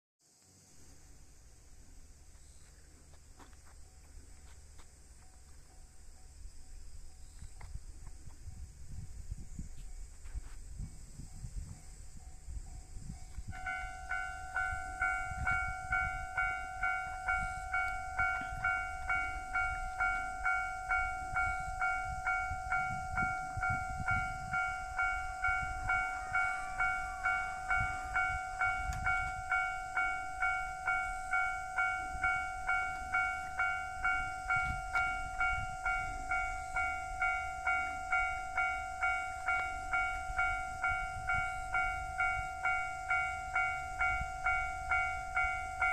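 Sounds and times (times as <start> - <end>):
level crossing warning bell: 3.8 - 7.3, 8.4 - 45.9.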